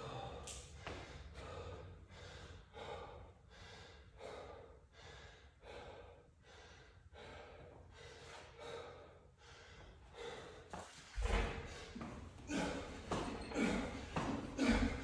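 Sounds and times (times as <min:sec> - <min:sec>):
man panting hard: 0:00.0 - 0:15.0.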